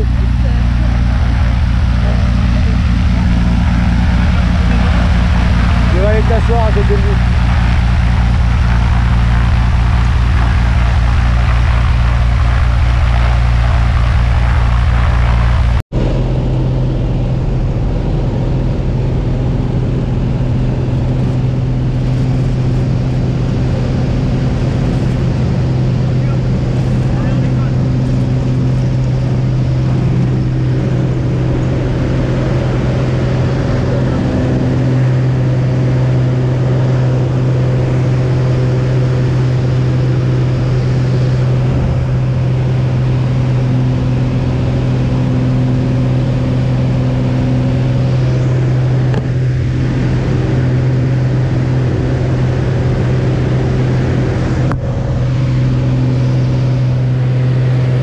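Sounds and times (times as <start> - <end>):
propeller aircraft engine drone: 0.0 - 58.0.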